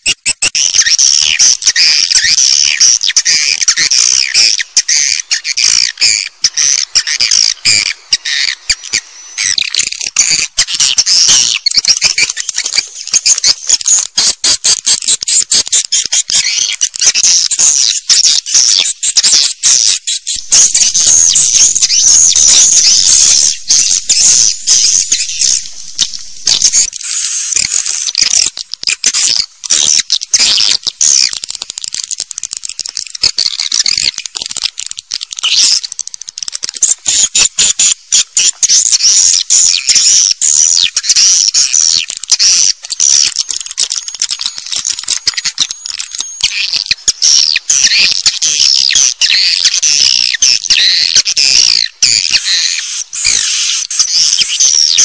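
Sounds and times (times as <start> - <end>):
swiftlets twittering and clicking: 0.0 - 55.0.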